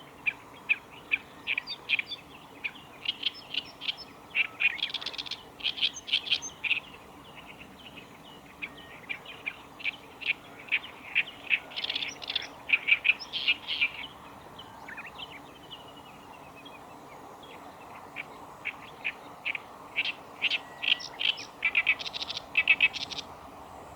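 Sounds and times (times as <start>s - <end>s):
warbler singing: 0.1s - 23.9s.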